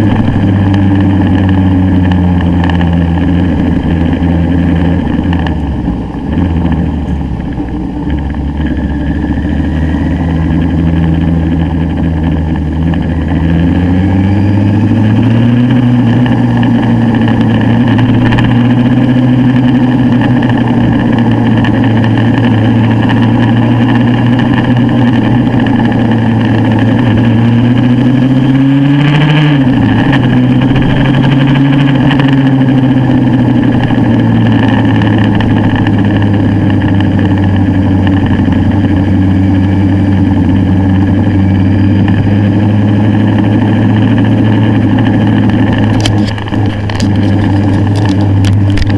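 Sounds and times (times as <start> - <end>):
motorcycle engine running: 0.0 - 48.9
road and wind noise: 0.0 - 48.9.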